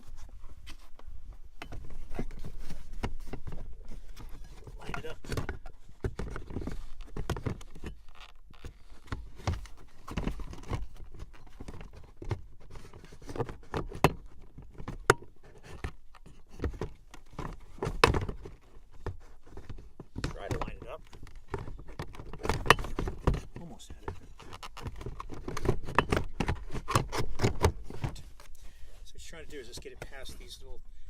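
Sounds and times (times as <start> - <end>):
plastic knocking and scraping: 0.0 - 28.5.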